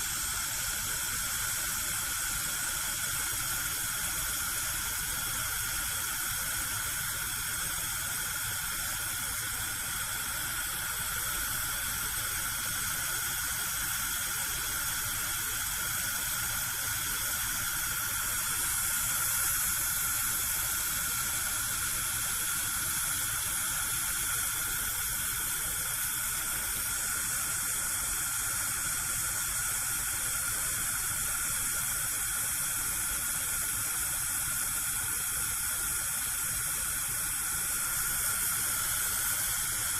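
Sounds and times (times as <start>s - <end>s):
gas burner flame hissing: 0.0s - 39.9s.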